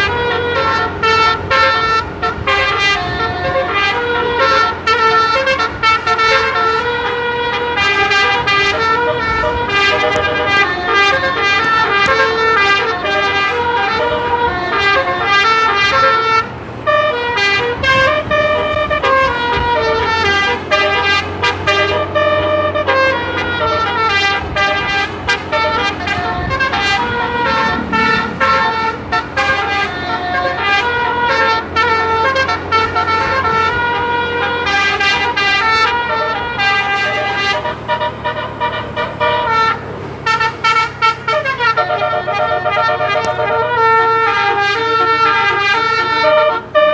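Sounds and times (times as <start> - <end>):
musical bus air horn melody: 0.0 - 46.9.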